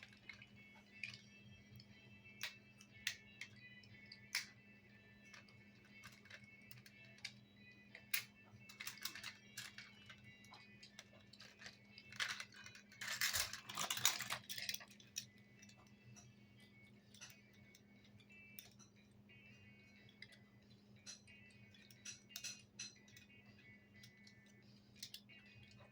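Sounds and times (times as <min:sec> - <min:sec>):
plastic toys clicking and knocking: 0:00.0 - 0:16.4, 0:17.0 - 0:19.2, 0:19.9 - 0:25.9.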